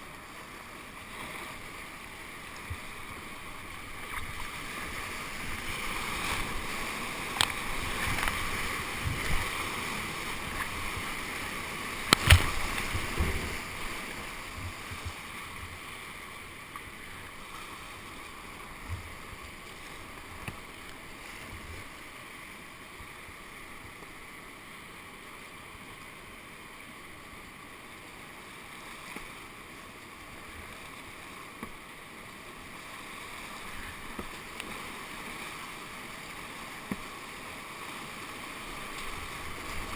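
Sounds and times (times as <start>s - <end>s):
rushing whitewater: 0.0s - 39.9s.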